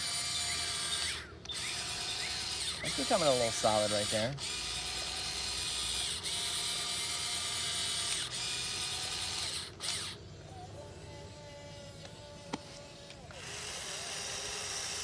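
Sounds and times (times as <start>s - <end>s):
electric motors whirring: 0.0s - 15.0s.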